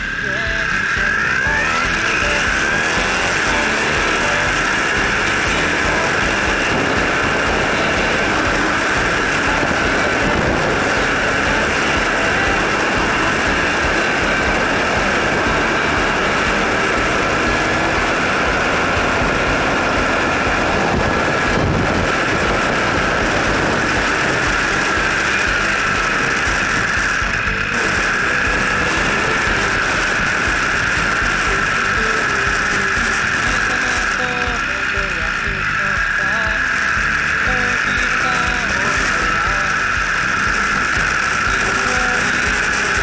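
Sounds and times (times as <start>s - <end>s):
motorcycle engine running: 0.0s - 43.0s
road noise: 0.0s - 43.0s
wind noise: 0.0s - 43.0s.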